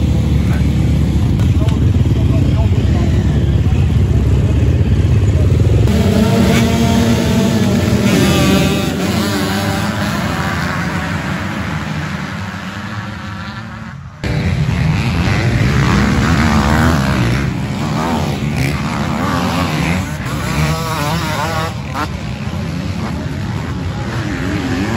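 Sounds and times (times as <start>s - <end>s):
dirt bikes racing past: 0.0s - 24.9s
motocross bikes accelerating: 0.0s - 24.9s.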